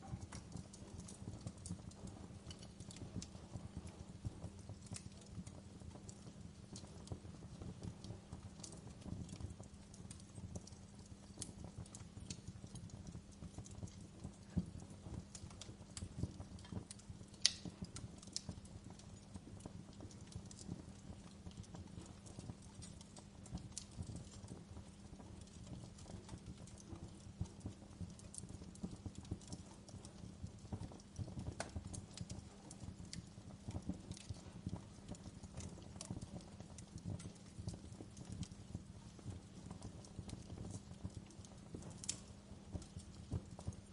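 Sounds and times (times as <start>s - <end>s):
fire crackling and popping: 0.0s - 43.9s
fire flames rumbling: 0.0s - 43.9s.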